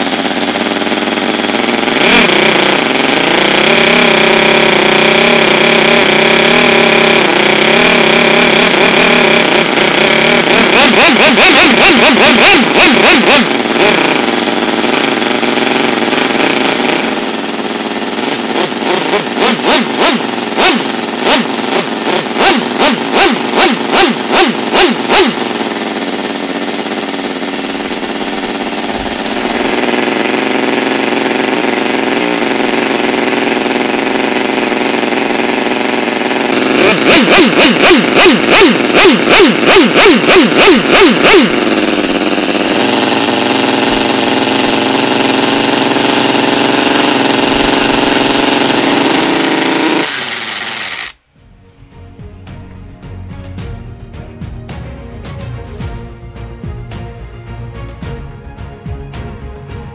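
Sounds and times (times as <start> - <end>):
small rotary engine revving: 0.0 - 51.3.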